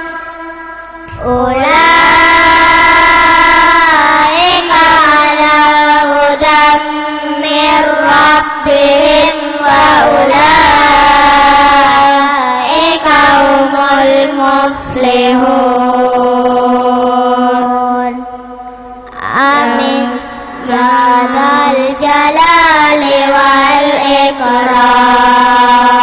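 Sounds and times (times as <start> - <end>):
children chanting in unison: 0.0 - 18.4, 19.1 - 26.0.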